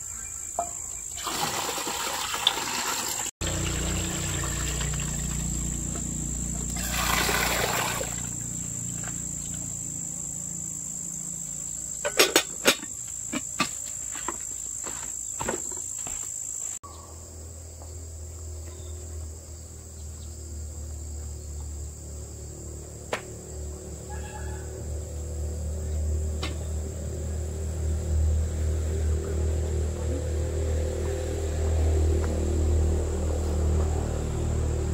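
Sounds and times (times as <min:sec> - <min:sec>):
high-pitched insect drone: 0:03.4 - 0:34.9.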